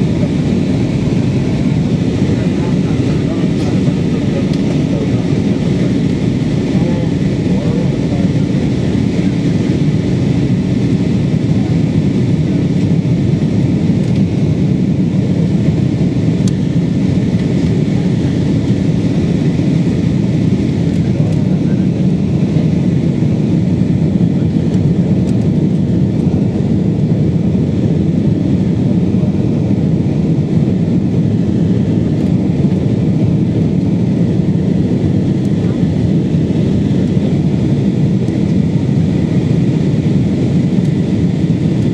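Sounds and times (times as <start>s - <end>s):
airliner engine drone in cabin: 0.0s - 41.9s.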